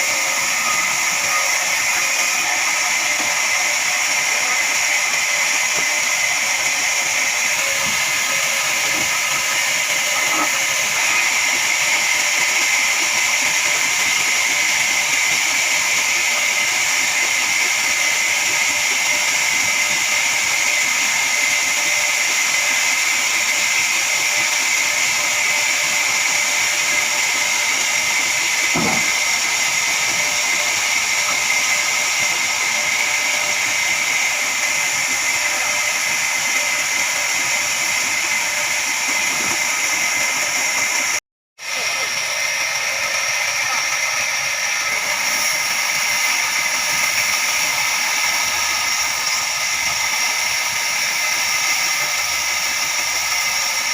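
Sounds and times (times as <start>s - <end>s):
band saw blade whining: 0.0s - 53.9s.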